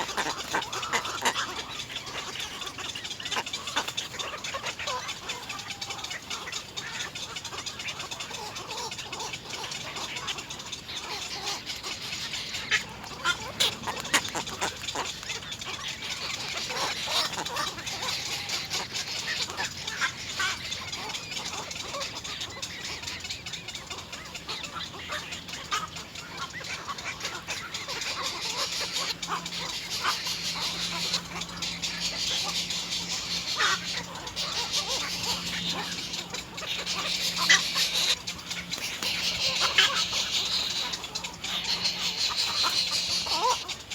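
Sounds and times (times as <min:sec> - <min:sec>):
nestlings begging calls: 0:00.0 - 0:43.9.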